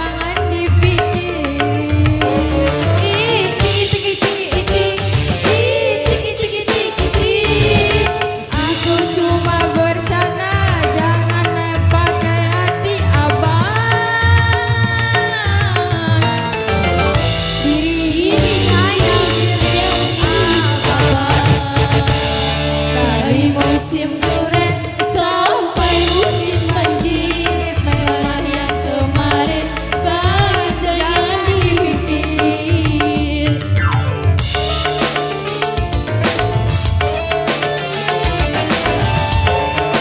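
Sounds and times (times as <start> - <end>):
live band playing dance music: 0.0 - 40.0.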